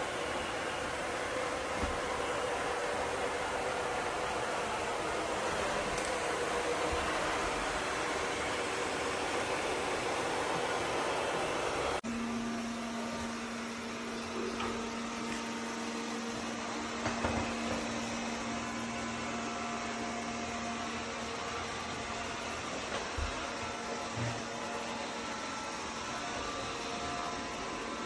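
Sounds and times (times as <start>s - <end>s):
robot vacuum humming: 0.0s - 28.0s.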